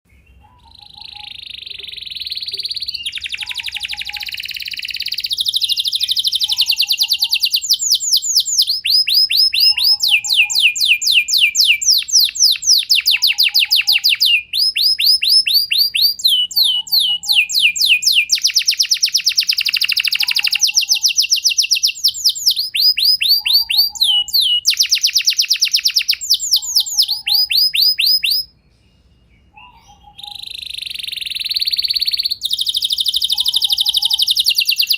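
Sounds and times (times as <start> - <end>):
canary singing trilled rolls: 0.1 - 34.9.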